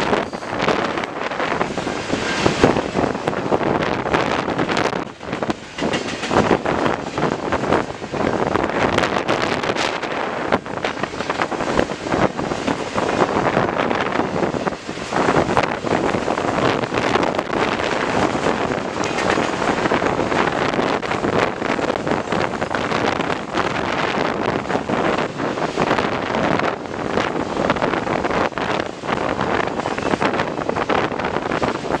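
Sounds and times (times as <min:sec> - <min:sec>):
steel wheels rumbling on rail: 0:00.0 - 0:32.0
wind buffeting microphone: 0:00.0 - 0:32.0.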